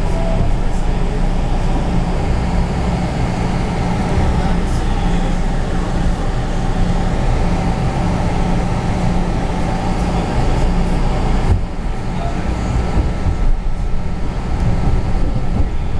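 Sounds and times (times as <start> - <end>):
vehicle running hum: 0.0 - 15.9.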